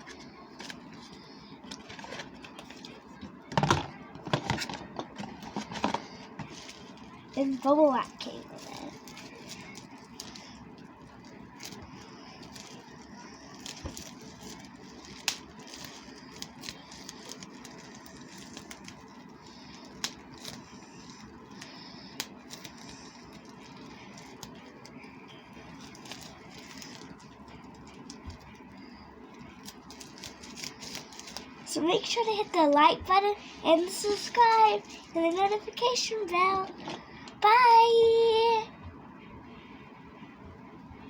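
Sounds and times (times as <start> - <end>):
plastic toy packaging clicks and crackles: 0.0 - 33.2.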